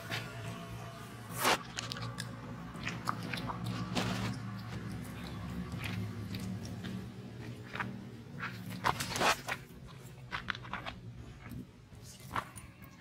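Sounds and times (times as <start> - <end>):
monkey chewing and crunching food: 1.4 - 13.0.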